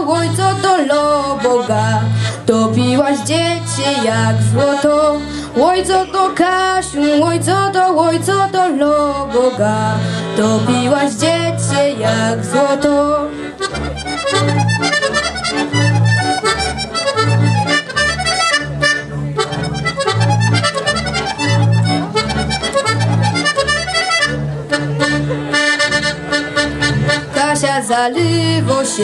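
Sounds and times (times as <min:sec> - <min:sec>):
accordion playing a folk tune: 0:00.0 - 0:29.0
double bass low notes: 0:00.0 - 0:29.0.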